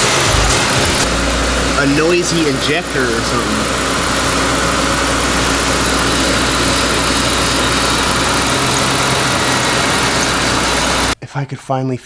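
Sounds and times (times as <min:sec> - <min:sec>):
buzzing noise: 0:00.0 - 0:11.2
car engine idling: 0:00.0 - 0:11.2.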